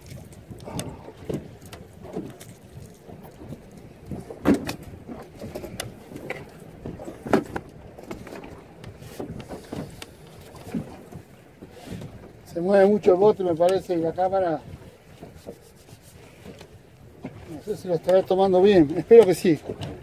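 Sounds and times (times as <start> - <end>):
water slapping against boat hull: 0.0 - 20.0.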